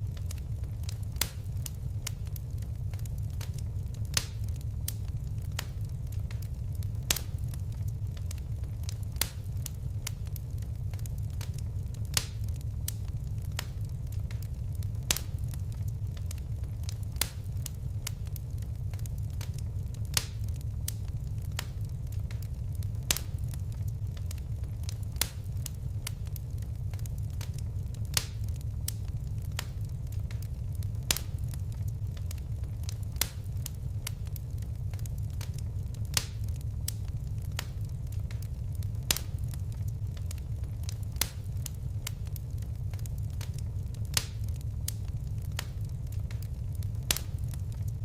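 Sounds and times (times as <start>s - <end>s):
fireplace fire crackling: 0.0s - 48.0s
low fire rumble: 0.0s - 48.0s.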